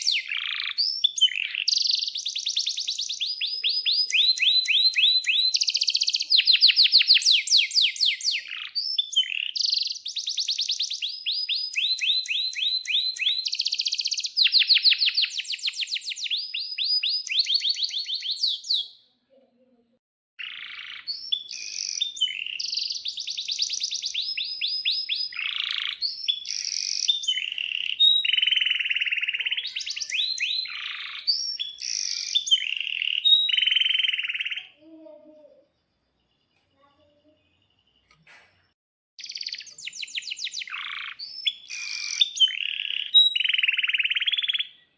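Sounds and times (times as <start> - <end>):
canary singing trills: 0.0 - 19.1, 20.4 - 44.9.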